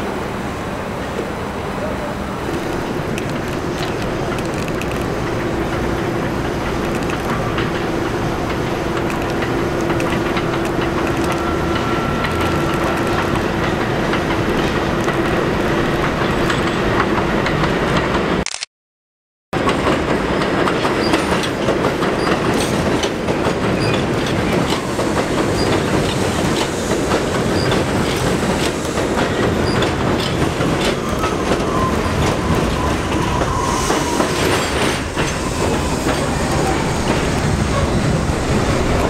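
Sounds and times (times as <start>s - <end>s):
train wheels clacking over rail joints: 2.5s - 18.3s, 19.6s - 39.0s.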